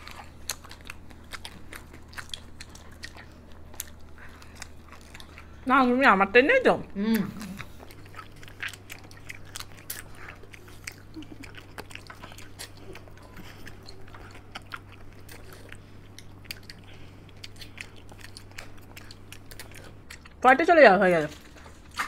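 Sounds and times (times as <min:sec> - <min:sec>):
people eating with wet mouth clicks: 0:00.0 - 0:06.0, 0:06.8 - 0:20.4, 0:21.3 - 0:22.0
steady low hum: 0:00.0 - 0:22.0.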